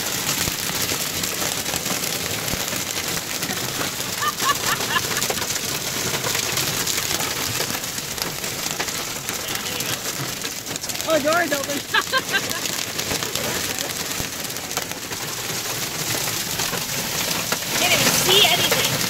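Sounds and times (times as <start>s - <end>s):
heavy rain drumming on car: 0.0s - 19.0s.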